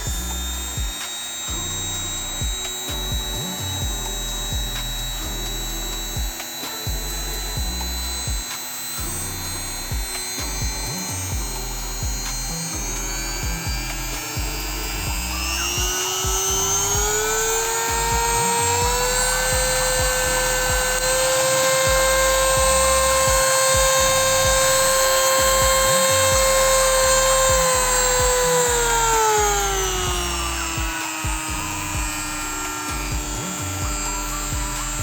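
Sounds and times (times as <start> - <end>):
die grinder motor whine: 0.0 - 35.0.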